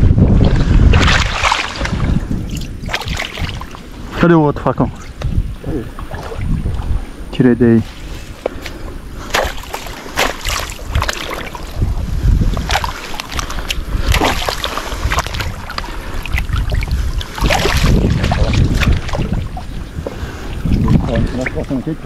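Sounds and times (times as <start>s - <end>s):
wind on microphone: 0.0s - 22.0s
water splashing and sloshing: 0.2s - 22.0s.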